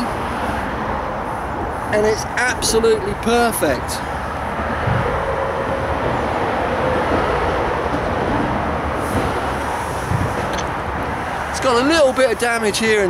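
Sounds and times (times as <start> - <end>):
vehicle rumbling past: 0.0 - 11.8.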